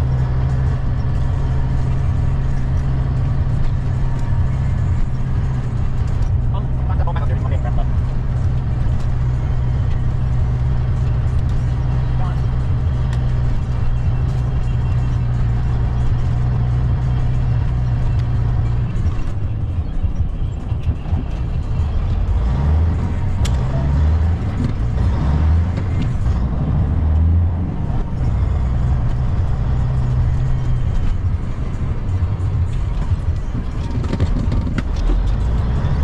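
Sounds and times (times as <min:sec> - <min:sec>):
truck engine droning: 0:00.0 - 0:36.0.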